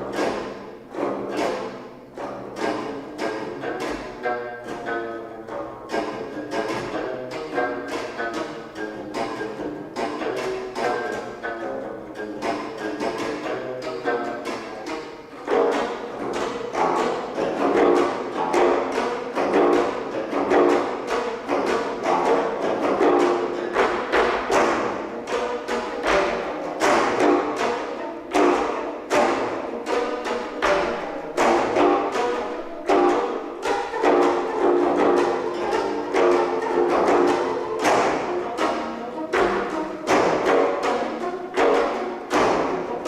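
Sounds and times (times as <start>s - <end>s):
plucked zithers struck with sticks: 0.0s - 43.0s.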